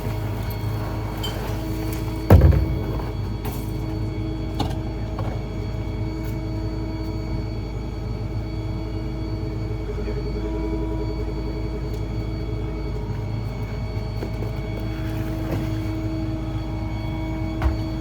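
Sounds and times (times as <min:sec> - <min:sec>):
garbage truck engine rumble: 0:00.0 - 0:06.8, 0:10.1 - 0:18.0
steady whine: 0:00.0 - 0:18.0.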